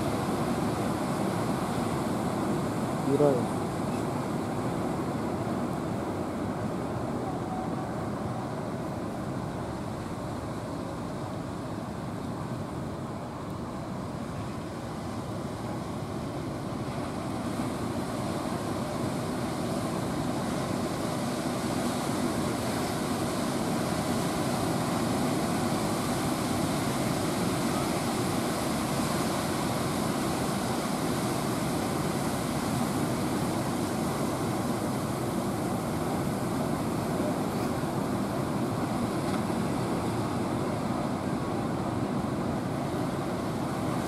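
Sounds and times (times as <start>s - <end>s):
sea surf breaking: 0.0s - 44.0s.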